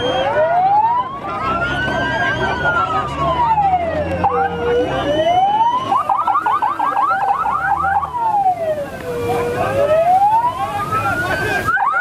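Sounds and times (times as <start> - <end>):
police siren wailing: 0.0 - 12.0
siren yelps: 0.0 - 12.0.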